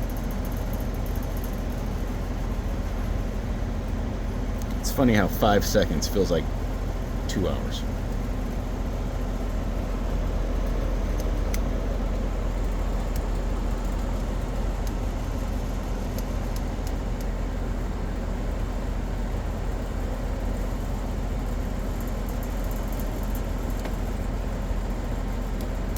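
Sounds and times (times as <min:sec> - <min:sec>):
mechanical running noise: 0:00.0 - 0:25.9.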